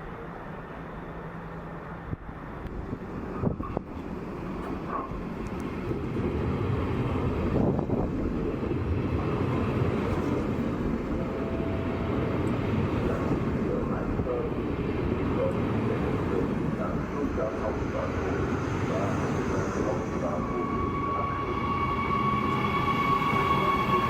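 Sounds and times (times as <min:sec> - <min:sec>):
train rumbling through station: 0:00.0 - 0:24.0.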